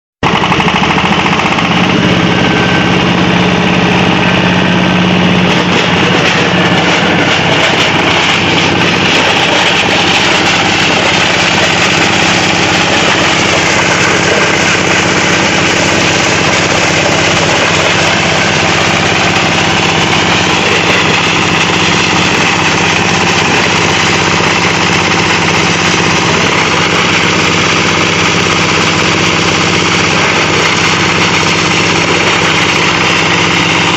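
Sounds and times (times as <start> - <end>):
shredder machine running: 0.2 - 33.9.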